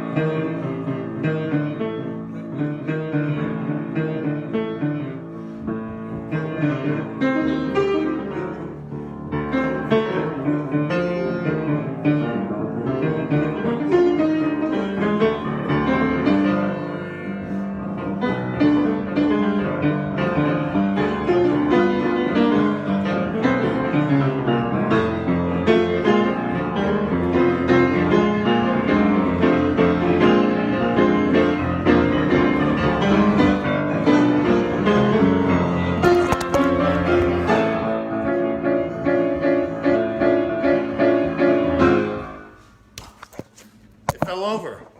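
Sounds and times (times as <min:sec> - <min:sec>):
solo piano improvisation: 0:00.0 - 0:42.6.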